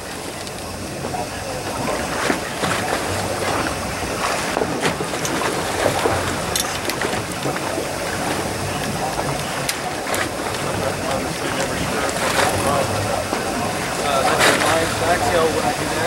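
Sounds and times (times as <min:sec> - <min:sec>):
boat engine humming: 0:00.0 - 0:16.0
sea noise: 0:00.0 - 0:16.0
wind: 0:00.0 - 0:16.0.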